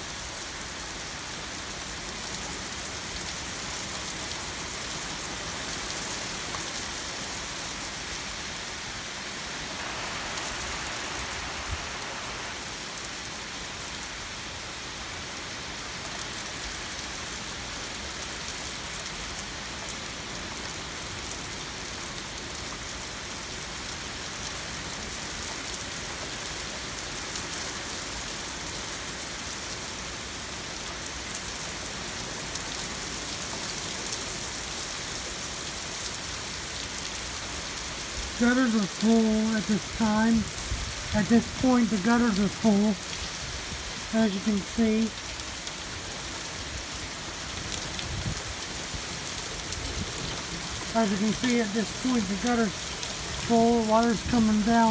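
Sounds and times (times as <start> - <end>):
heavy rain on hard surfaces: 0.0 - 54.9.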